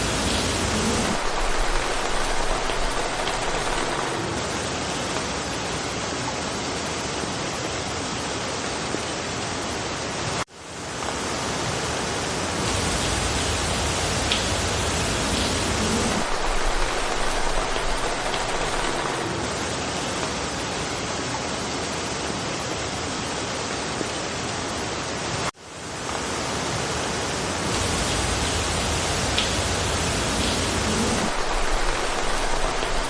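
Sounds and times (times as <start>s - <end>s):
rain falling through forest: 0.0s - 33.0s.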